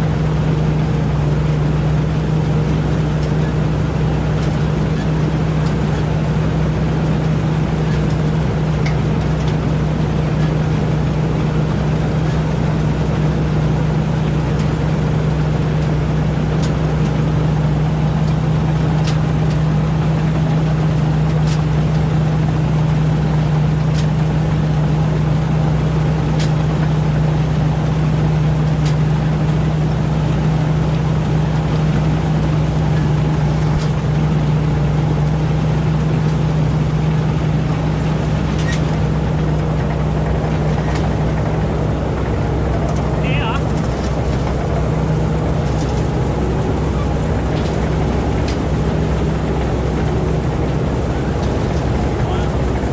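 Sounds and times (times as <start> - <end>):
combine harvester engine drone: 0.0 - 52.9.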